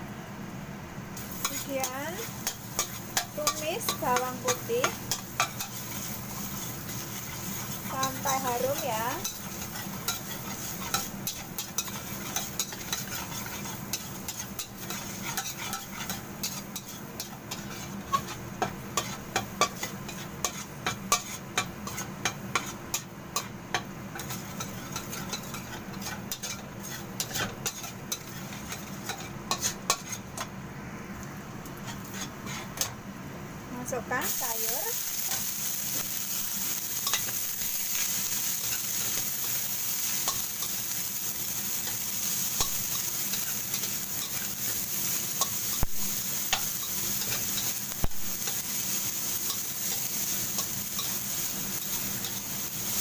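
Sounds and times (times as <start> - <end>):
garlic sizzling in hot oil: 1.1 - 30.6, 31.6 - 33.0, 33.8 - 53.0
metal spatula scraping wok: 1.2 - 23.5, 24.1 - 30.4, 31.8 - 32.9, 34.2 - 53.0.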